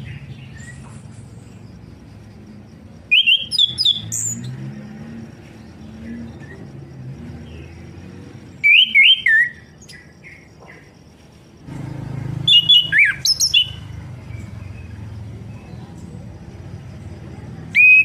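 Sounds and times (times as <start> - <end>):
thrush singing whistled notes: 0.0 - 15.9, 16.6 - 18.0.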